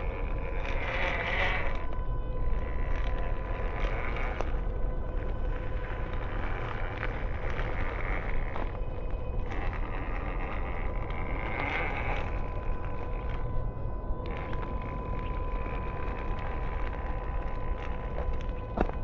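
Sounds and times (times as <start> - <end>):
rc truck motor whining: 0.0 - 19.0
stones ticking under tyres: 0.0 - 19.0.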